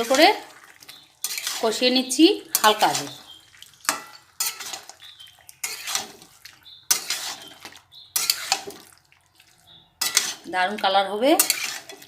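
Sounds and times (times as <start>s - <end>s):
spoon scraping a pan: 0.8s - 12.0s.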